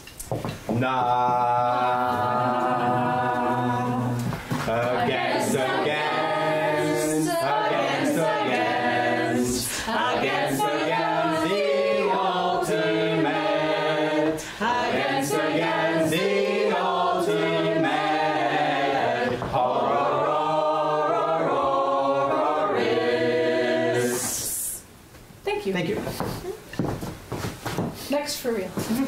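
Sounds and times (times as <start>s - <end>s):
group singing a cappella: 0.7s - 24.9s.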